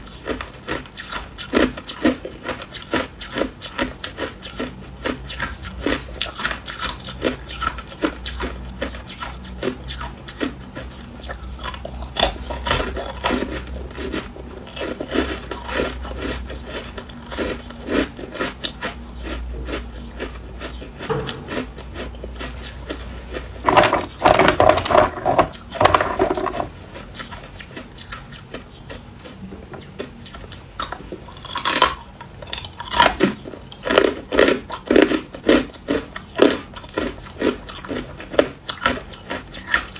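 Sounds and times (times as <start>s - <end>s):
chewing crushed ice: 0.0s - 39.9s.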